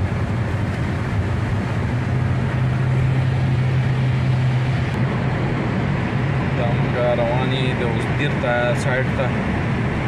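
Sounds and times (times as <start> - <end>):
car engine and tyre noise: 0.0 - 10.0.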